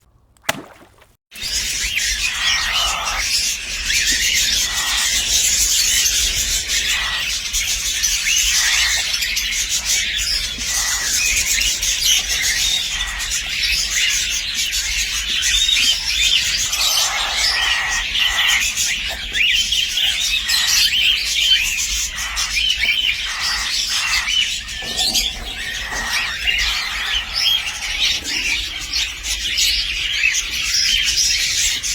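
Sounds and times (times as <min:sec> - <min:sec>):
cockatiel chicks chirping: 0:01.4 - 0:31.9.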